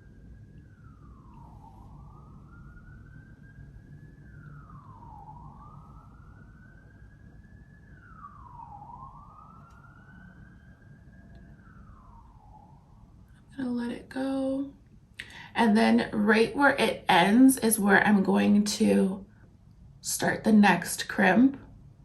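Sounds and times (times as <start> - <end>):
faint siren wailing: 0.0 - 22.0
steady low rumble: 0.0 - 22.0.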